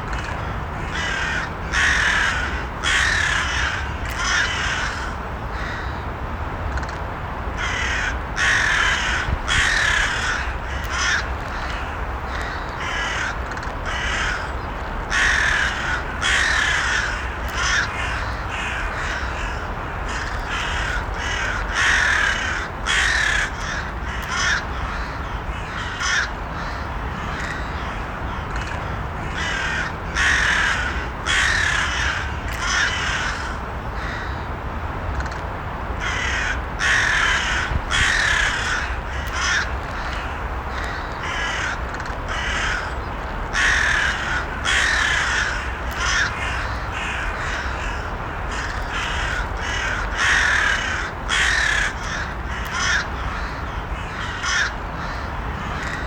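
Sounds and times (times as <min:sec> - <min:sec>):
crows cawing: 0:00.1 - 0:06.0, 0:07.6 - 0:34.5, 0:36.0 - 0:56.0.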